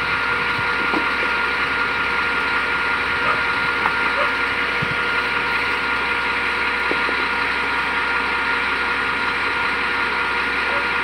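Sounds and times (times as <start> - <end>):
diesel engine idling: 0.0 - 11.0
steady high whine: 0.0 - 11.0.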